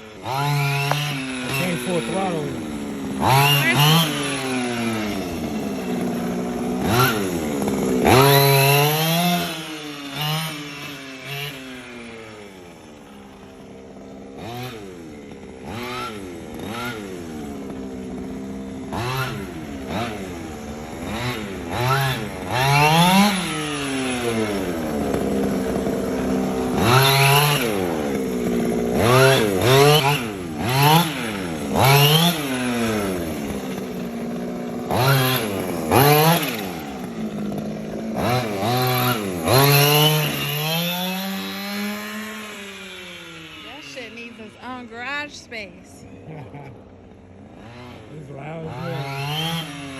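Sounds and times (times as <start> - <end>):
small two-stroke engine revving: 0.0 - 49.9.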